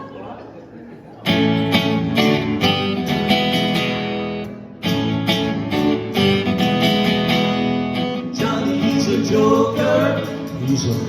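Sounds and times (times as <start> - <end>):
guitar strumming chords: 1.3 - 11.0.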